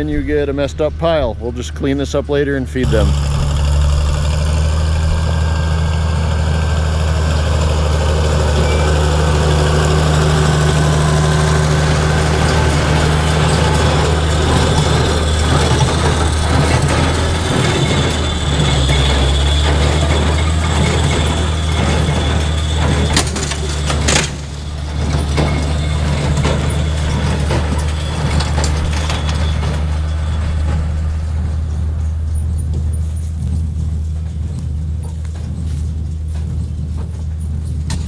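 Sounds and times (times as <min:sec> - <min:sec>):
tractor engine running: 0:00.0 - 0:38.0
irregular clatter: 0:02.8 - 0:38.0.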